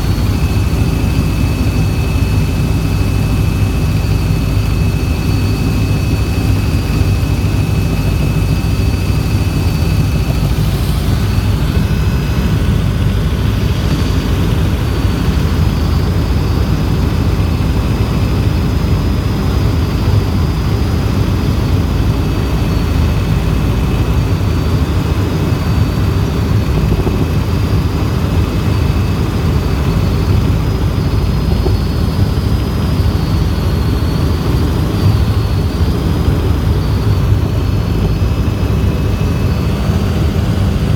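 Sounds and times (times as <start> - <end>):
thin high whine: 0.0 - 19.2, 22.2 - 40.9
helicopter rotor and engine: 0.0 - 40.9.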